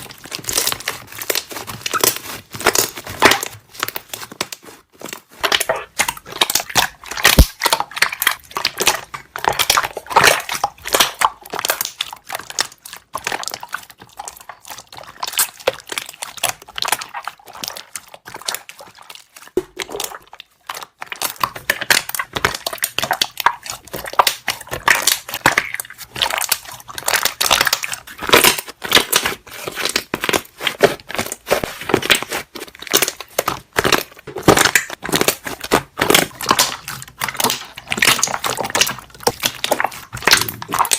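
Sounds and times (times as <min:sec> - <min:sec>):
slime bubbles popping: 0:00.0 - 0:40.9.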